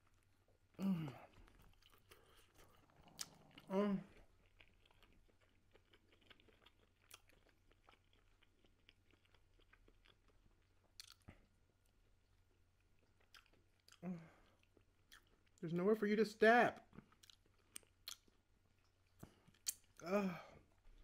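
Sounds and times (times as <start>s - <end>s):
faint chewing with mouth clicks: 0.0s - 15.6s, 16.8s - 21.0s.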